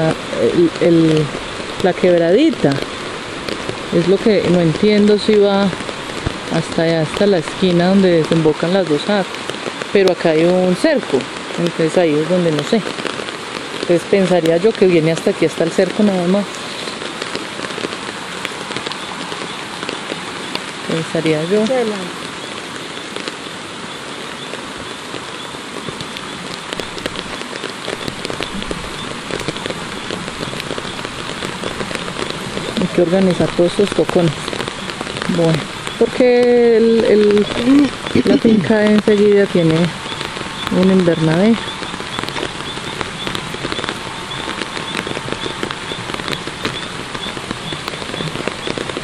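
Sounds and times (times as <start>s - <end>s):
rain hissing on undergrowth: 0.0s - 49.0s
raindrop ticks: 0.0s - 49.0s.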